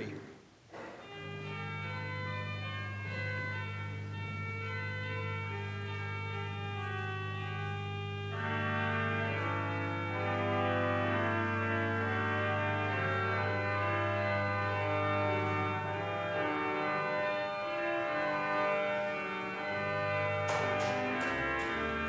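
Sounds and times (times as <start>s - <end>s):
church organ playing a hymn: 0.8s - 22.0s
held low organ bass note: 1.1s - 22.0s.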